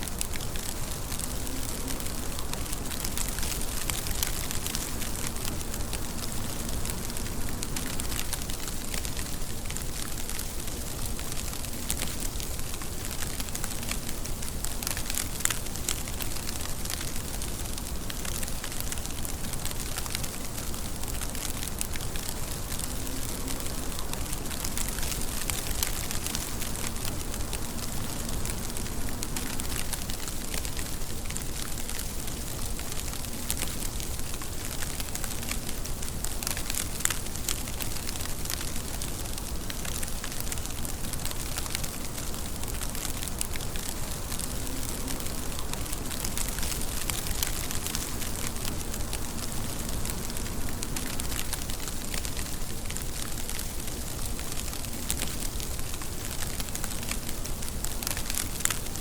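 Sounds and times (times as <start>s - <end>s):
raindrops ticking: 0.0s - 59.0s
steady rain hissing: 0.0s - 59.0s.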